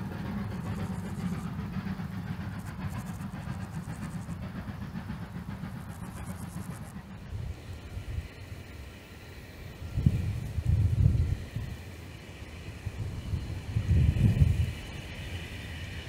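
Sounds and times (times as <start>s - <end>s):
distant train rumbling past: 0.0s - 16.0s.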